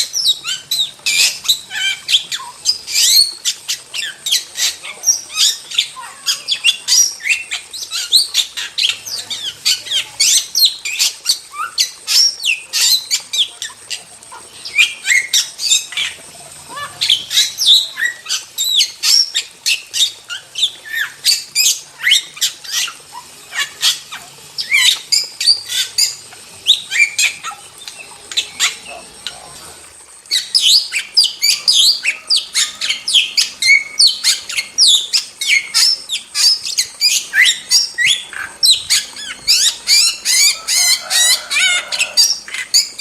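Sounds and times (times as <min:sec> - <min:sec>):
starling singing chattering notes: 0:00.0 - 0:43.0.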